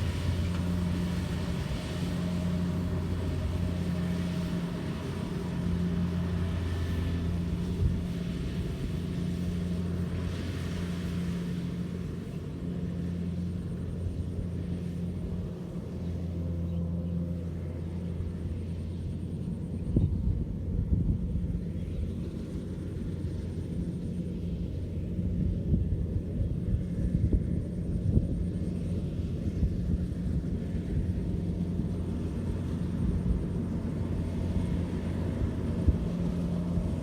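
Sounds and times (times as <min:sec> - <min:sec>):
harvester engine humming: 0:00.0 - 0:37.0.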